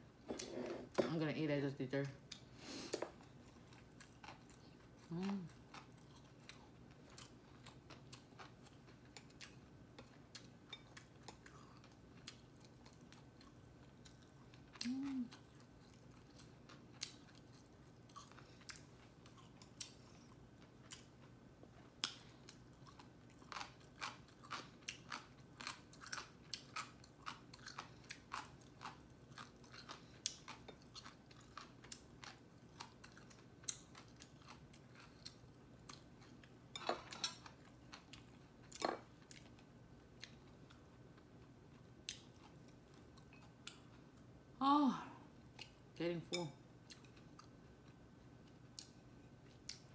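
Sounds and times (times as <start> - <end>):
person chewing food: 2.2 - 44.4, 45.3 - 46.0, 46.7 - 49.9.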